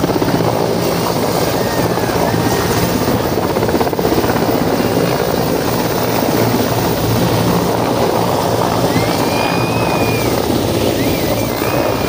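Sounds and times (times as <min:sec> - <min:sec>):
helicopter rotor blade chop: 0:00.0 - 0:12.0
turbine whine: 0:00.0 - 0:12.0.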